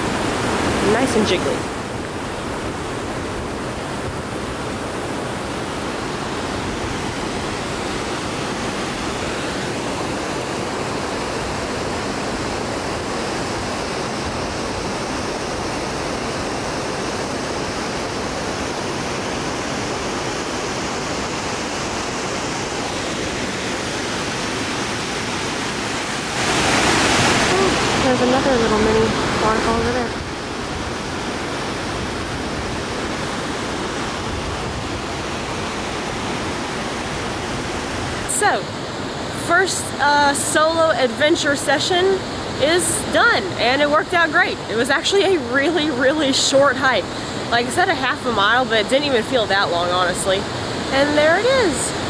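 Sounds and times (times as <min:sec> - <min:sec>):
waterfall rushing over rocks: 0:00.0 - 0:52.0.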